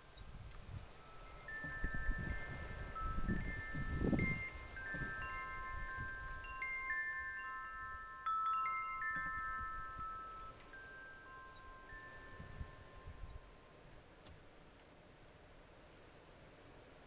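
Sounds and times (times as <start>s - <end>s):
wind chimes ringing: 0.0s - 14.8s.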